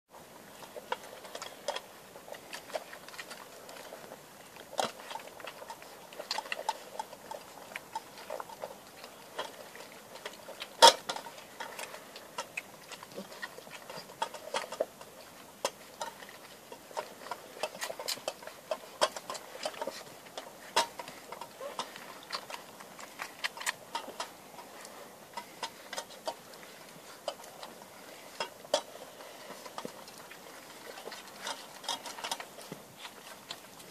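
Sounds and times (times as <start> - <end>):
puppies feeding clicks and smacks: 0.1 - 33.9.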